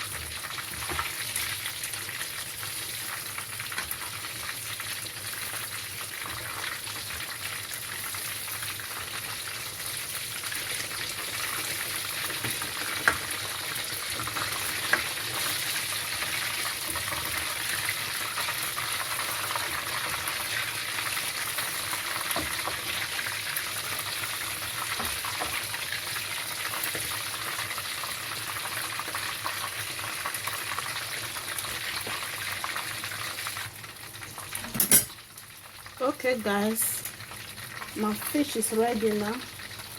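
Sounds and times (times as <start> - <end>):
fish frying in oil: 0.0 - 39.9.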